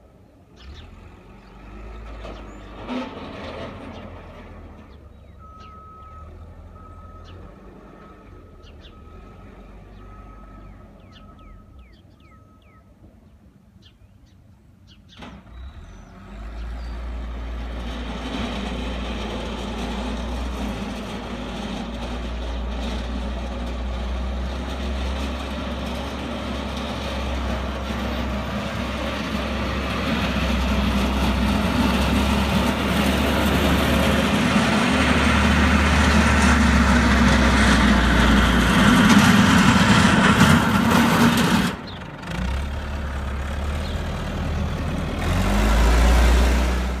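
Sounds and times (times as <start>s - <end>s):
backhoe diesel engine running: 0.6s - 12.9s, 15.2s - 47.0s.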